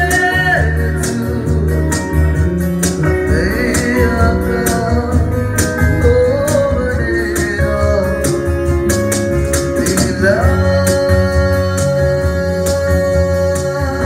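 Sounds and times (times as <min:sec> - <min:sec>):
live band music: 0:00.0 - 0:14.0
person singing into a microphone: 0:00.0 - 0:14.0.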